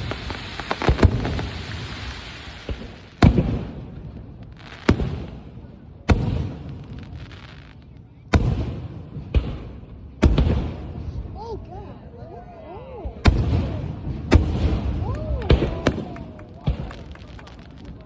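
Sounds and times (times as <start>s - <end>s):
firework booms with rumbling echo: 0.0s - 11.4s, 13.1s - 18.0s.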